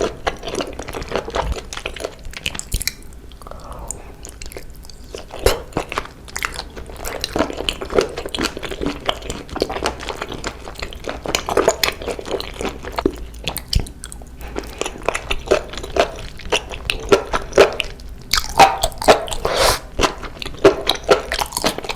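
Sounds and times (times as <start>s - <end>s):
close chewing and smacking: 0.0s - 21.9s.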